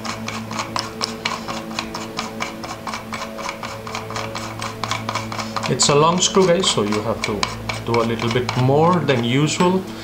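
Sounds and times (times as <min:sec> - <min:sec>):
cover screwing on threads ticking: 0:00.0 - 0:09.8.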